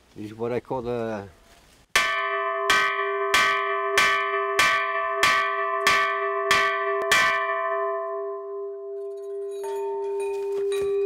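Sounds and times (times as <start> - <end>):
gas cylinder bell clanging: 2.0 - 11.0.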